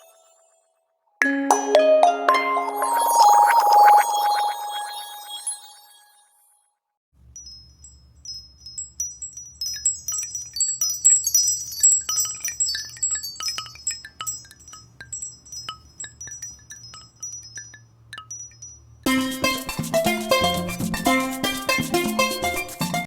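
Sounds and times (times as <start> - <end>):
tinkling chime ringtone: 1.2 - 6.5, 7.3 - 23.0.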